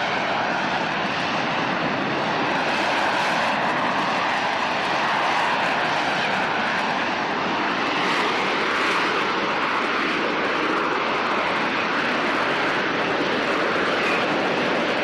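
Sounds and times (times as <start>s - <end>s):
jet engine rushing roar: 0.0s - 15.0s.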